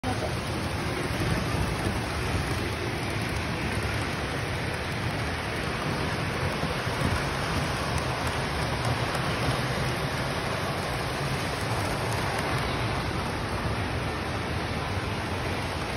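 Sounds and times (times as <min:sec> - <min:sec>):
model trains running on track: 0:00.0 - 0:15.9.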